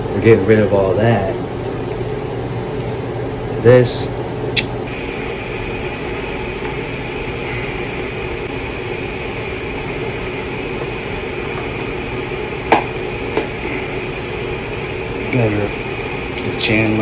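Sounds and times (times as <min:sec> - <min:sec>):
droning machine hum with hiss: 0:00.0 - 0:17.0.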